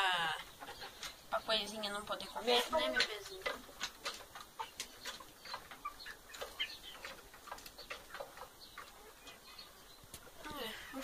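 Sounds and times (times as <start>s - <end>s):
soft chicken clucks: 0.0s - 11.0s
chickens pecking taps: 0.2s - 11.0s.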